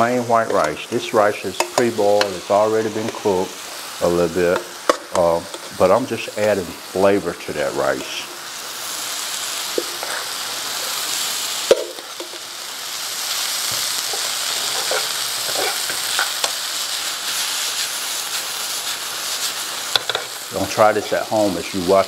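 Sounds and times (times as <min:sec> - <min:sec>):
rice and onions sizzling in a pan: 0:00.0 - 0:22.0.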